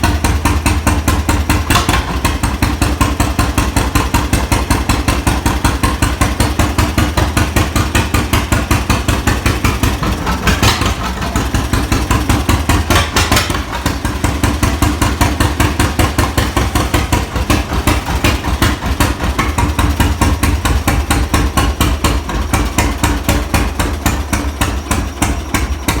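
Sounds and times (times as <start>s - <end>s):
two-cylinder tractor engine popping: 0.0s - 26.0s.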